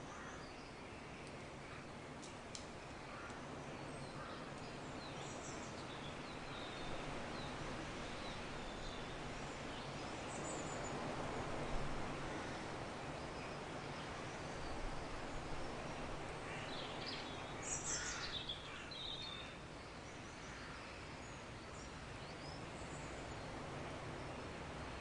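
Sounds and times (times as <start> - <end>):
soft steady hiss: 0.0 - 25.0.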